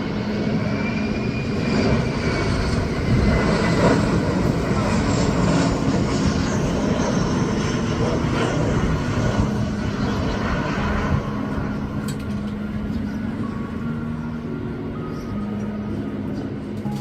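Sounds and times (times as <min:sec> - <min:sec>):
airliner engine rumble overhead: 0:00.0 - 0:17.0.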